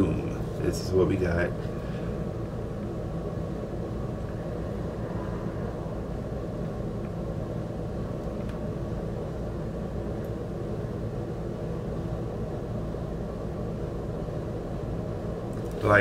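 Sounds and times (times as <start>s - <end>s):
low room noise rumble: 0.0s - 16.0s.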